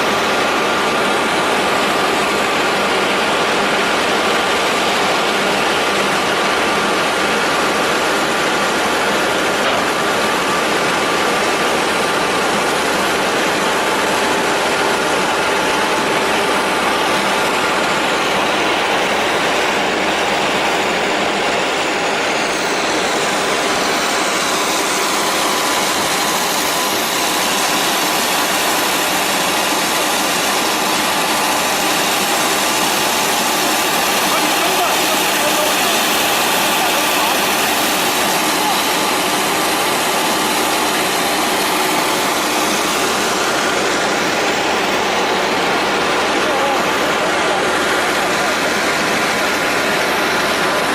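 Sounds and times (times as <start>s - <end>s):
fog cannon spraying: 0.0s - 50.9s.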